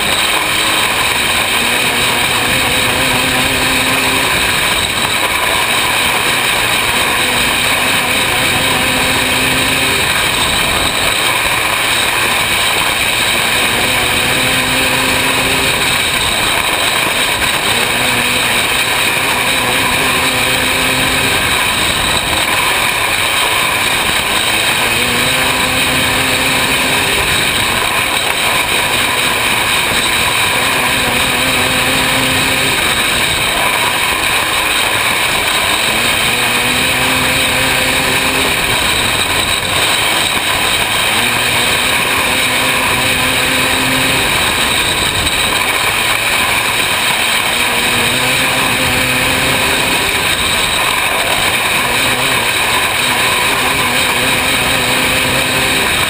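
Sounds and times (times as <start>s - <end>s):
racing car engine: 0.0s - 56.0s
rushing noise: 0.0s - 56.0s.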